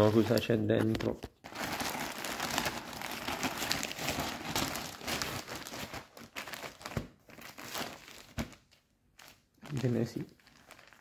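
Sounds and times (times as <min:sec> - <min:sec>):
plastic crinkling and rustling: 0:00.0 - 0:11.0.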